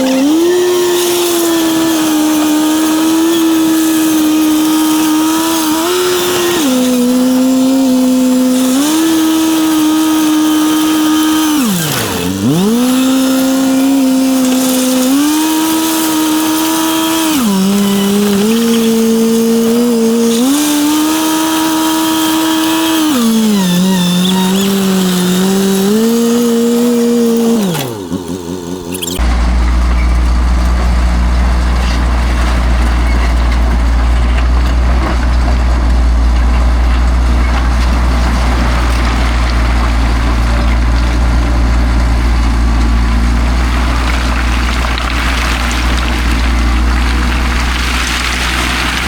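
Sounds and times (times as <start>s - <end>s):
motor running: 0.0s - 49.0s.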